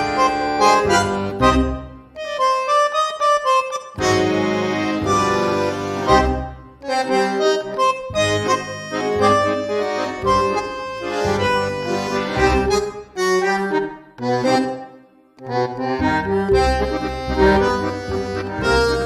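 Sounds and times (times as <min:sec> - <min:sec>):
bouncy instrumental music: 0:00.0 - 0:19.0.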